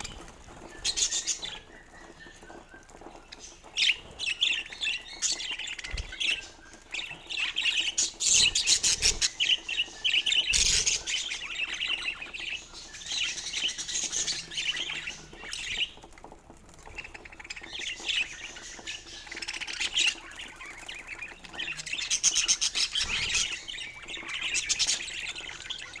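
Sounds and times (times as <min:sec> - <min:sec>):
budgerigars chirping: 0:03.4 - 0:16.0, 0:17.0 - 0:26.0.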